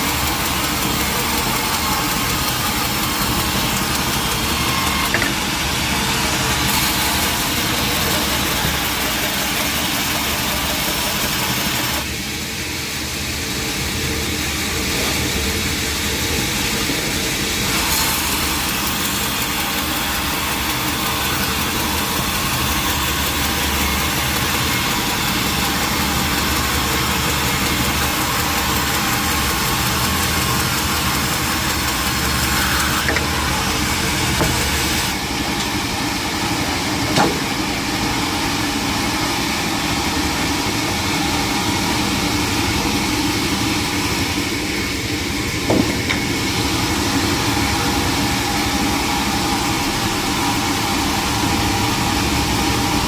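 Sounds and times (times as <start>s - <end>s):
machinery hum: 0.0s - 53.0s.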